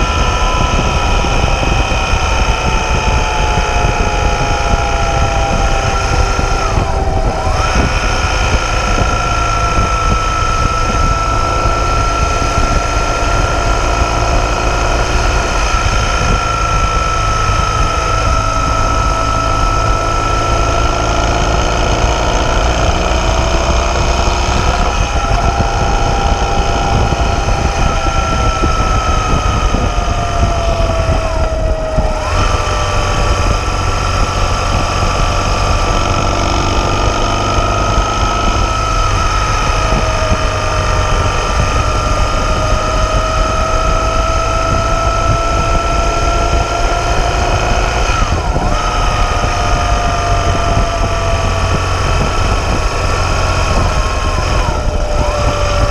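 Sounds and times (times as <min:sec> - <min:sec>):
motorcycle engine running: 0:00.0 - 0:55.9
wind rumble on microphone: 0:00.0 - 0:55.9.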